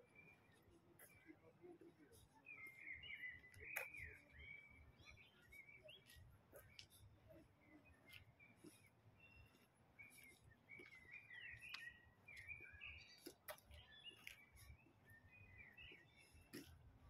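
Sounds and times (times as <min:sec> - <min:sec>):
birds chirping and whistling: 0:02.0 - 0:16.7.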